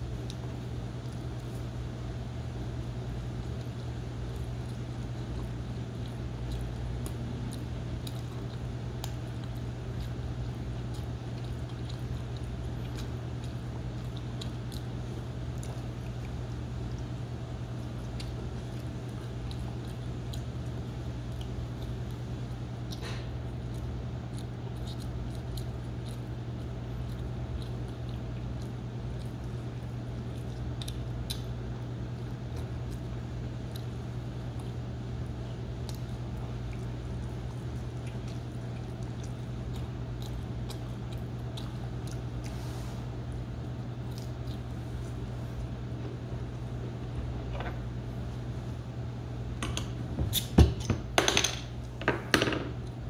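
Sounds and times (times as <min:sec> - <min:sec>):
chewing pizza: 0:00.0 - 0:50.6, 0:52.8 - 0:53.0
steady low hum: 0:00.0 - 0:53.0.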